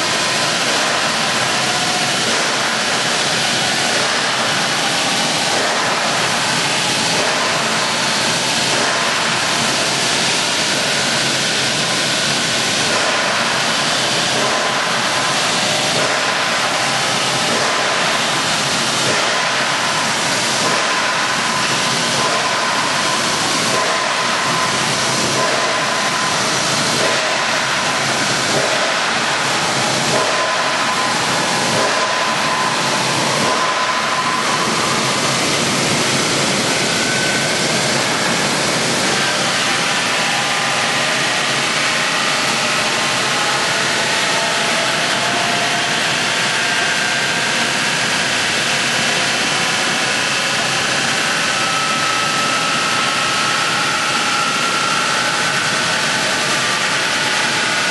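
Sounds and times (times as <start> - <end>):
wood chipper running: 0.0 - 57.9.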